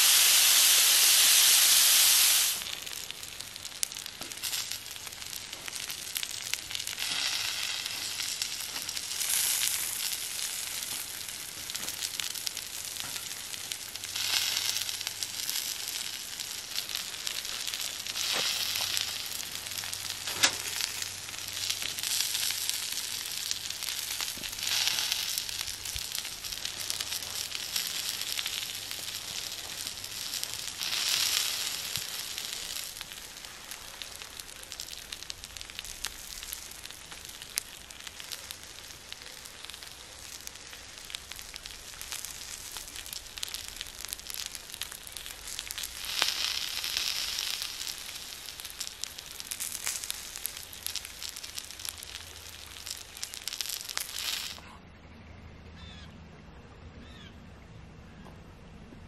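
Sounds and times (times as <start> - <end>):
food sizzling on a griddle: 0.0 - 54.6
sharp pops: 3.8 - 54.7.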